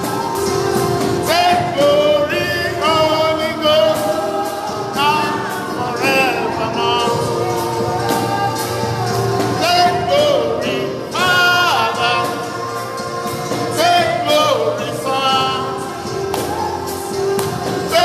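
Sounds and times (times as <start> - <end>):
gospel worship singing: 0.0 - 18.0
instrumental backing: 0.0 - 18.0.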